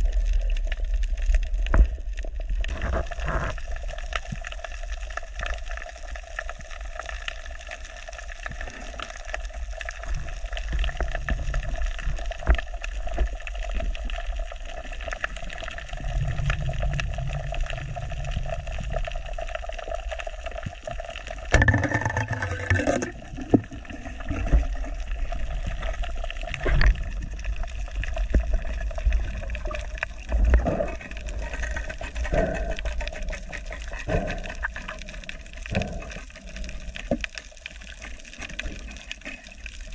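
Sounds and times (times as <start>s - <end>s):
underwater low rumble: 0.0s - 39.9s.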